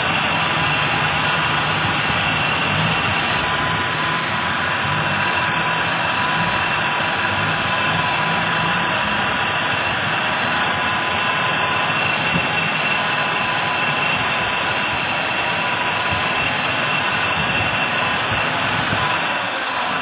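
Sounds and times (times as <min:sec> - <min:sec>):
car engine idling: 0:00.0 - 0:20.0
thin steady whine: 0:00.0 - 0:20.0.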